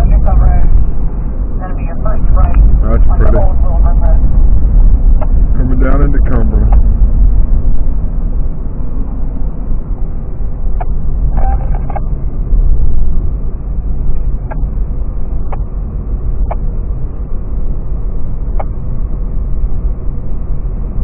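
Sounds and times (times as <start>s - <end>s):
car rumble on snowy road: 0.0s - 21.0s.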